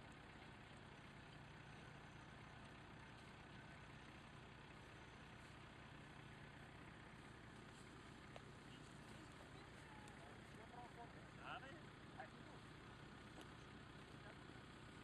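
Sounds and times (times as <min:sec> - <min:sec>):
faint engine idling: 0:00.0 - 0:15.0.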